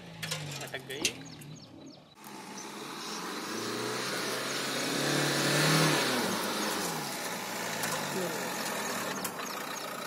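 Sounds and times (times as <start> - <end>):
diesel engine revving under load: 0.0 - 10.0.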